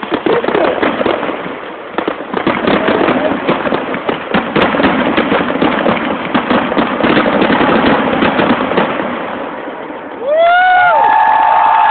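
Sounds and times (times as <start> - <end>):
fireworks crackling: 0.0 - 11.9.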